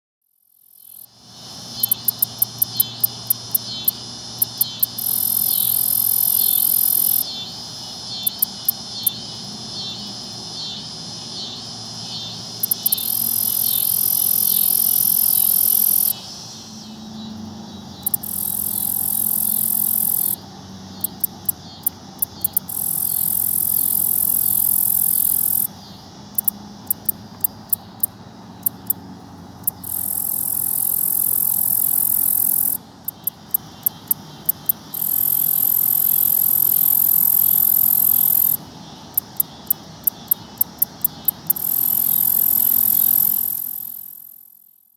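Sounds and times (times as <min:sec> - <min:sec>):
katydid high ticks: 0:00.6 - 0:44.5
katydid high buzz: 0:00.6 - 0:44.6.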